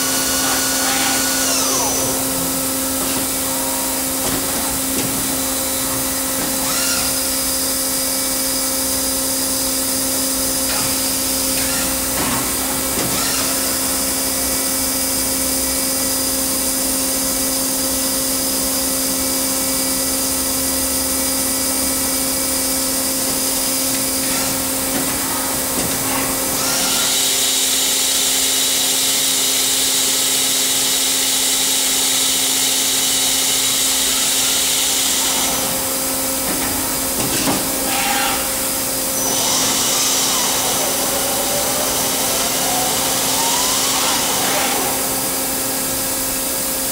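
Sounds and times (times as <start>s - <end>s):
lathe machine hum: 0.0s - 46.9s
machine whines: 0.0s - 46.9s.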